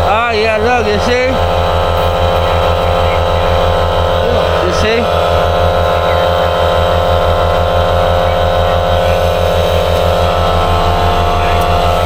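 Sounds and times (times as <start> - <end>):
machine humming: 0.0 - 12.0
steady high tones: 0.0 - 12.0.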